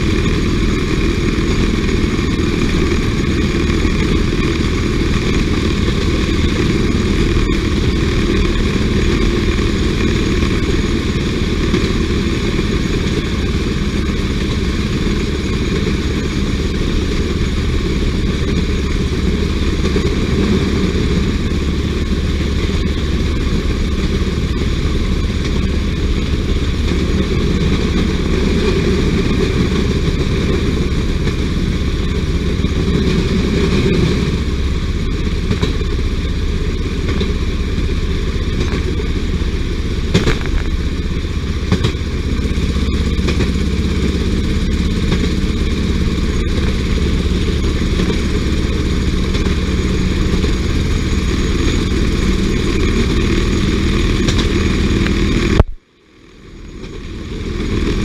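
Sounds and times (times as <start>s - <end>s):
small engine running on rails: 0.0s - 58.0s.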